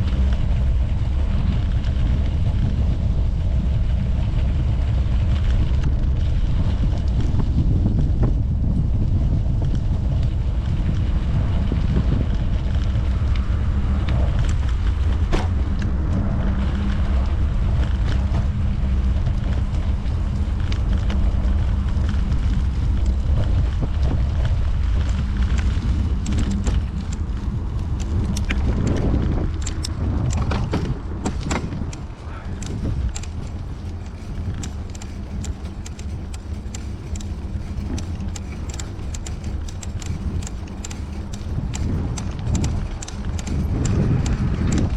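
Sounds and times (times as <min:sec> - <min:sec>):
bicycle clicks and rattles: 0:00.0 - 0:44.9
wind rumbling on microphone: 0:00.0 - 0:44.9.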